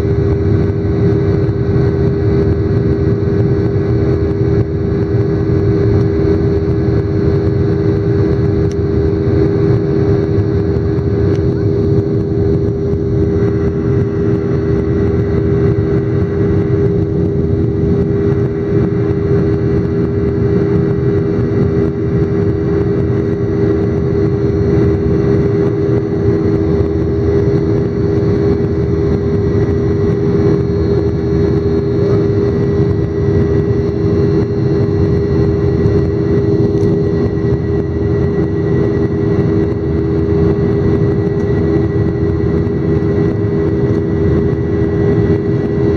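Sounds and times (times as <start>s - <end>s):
jet engine drone: 0.0s - 45.9s.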